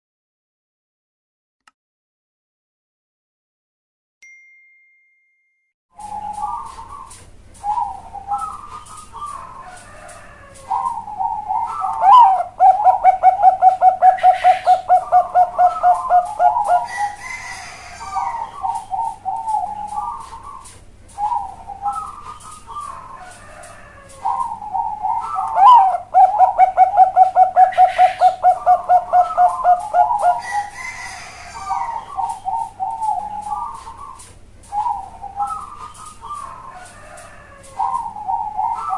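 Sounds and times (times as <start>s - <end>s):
dove cooing: 6.0s - 38.9s.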